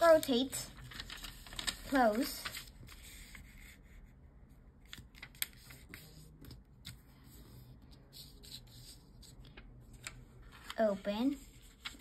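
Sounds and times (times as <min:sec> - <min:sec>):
paper rustling: 0:00.0 - 0:03.8, 0:04.9 - 0:12.0.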